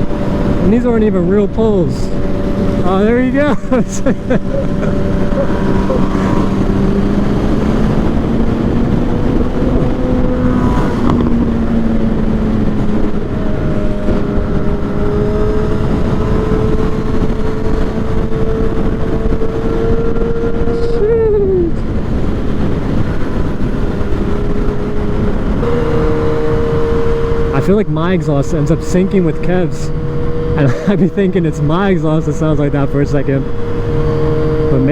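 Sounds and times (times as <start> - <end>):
motorcycle engine cruising: 0.0 - 34.9
wind rush: 0.0 - 34.9.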